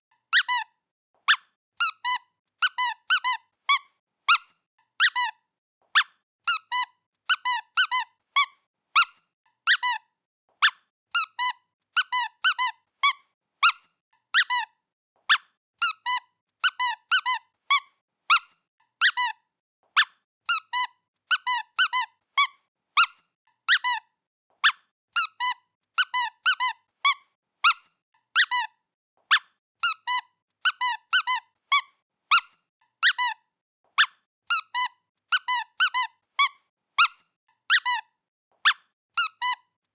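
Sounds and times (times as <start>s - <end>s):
squeaky toy squeaking: 0.3s - 19.4s, 20.0s - 39.7s.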